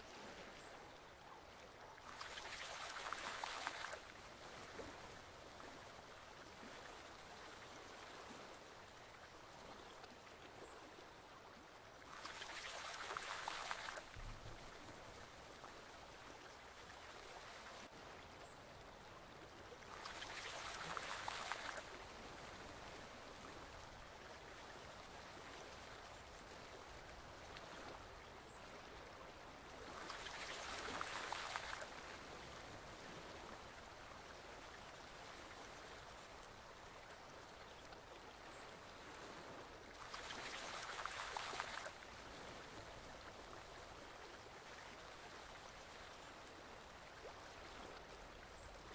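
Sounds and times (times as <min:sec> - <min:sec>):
forest stream flowing: 0:00.0 - 0:48.9
rush of water: 0:00.0 - 0:48.9.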